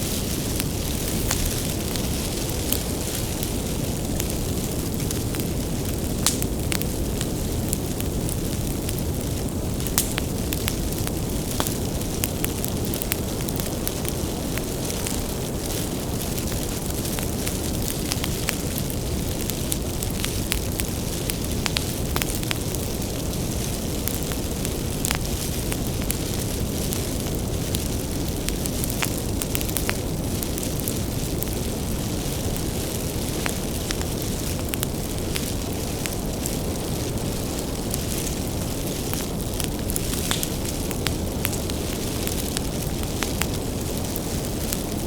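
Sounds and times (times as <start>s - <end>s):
bonfire flame rushing: 0.0s - 45.0s
fire crackling and popping: 0.0s - 45.0s.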